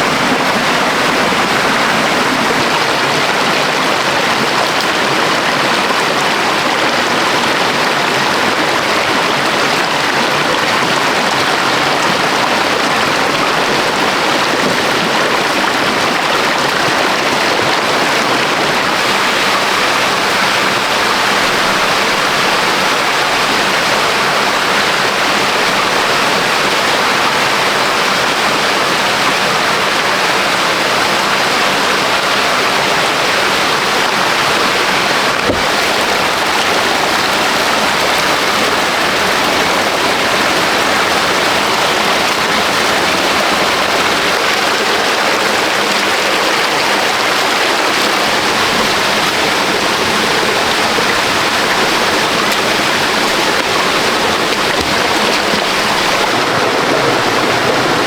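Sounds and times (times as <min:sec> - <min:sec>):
rushing water rapids: 0:00.0 - 0:58.0.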